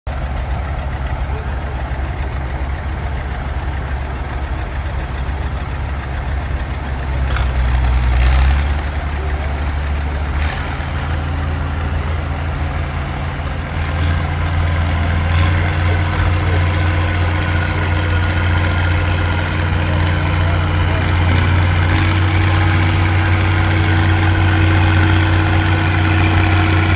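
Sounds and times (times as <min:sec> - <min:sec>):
tractor engines idling: 0:00.1 - 0:26.9.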